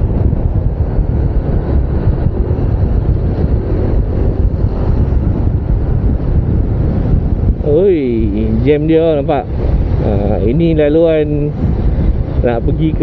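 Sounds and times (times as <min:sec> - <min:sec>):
scooter engine and road rumble: 0:00.0 - 0:13.0
wind buffeting microphone: 0:00.0 - 0:13.0.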